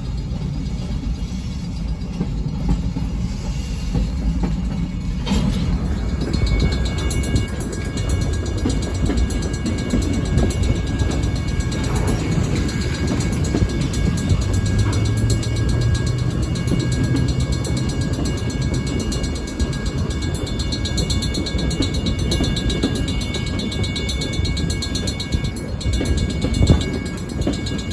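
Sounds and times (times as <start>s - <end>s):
crossing bell ringing: 0.0s - 27.9s
train wheels rumbling on rails: 0.0s - 27.9s.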